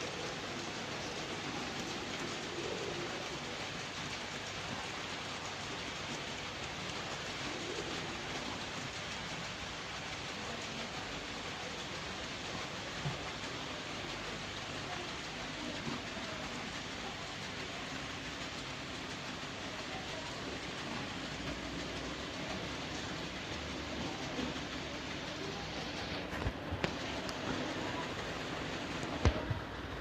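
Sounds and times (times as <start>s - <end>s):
faint low murmur: 0.0s - 30.0s
steady hiss: 0.0s - 30.0s.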